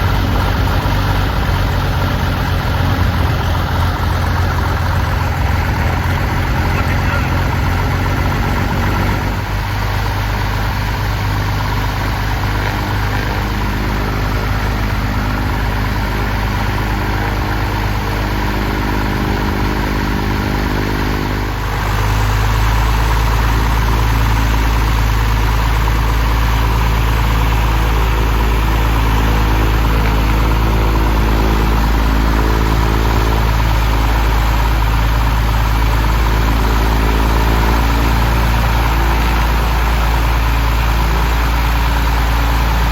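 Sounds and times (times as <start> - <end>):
aircraft piston engine and propeller: 0.0 - 42.9.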